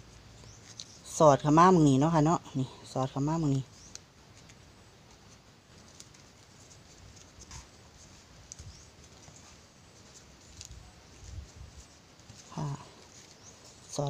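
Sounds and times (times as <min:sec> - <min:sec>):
leaves rustling and crinkling: 0:00.0 - 0:14.0
soft ticks of leaves bending: 0:00.0 - 0:14.0.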